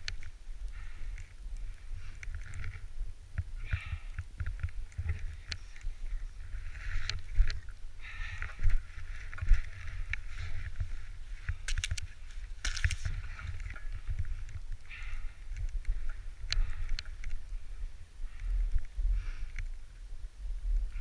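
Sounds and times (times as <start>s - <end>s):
rustling: 0.0s - 19.8s.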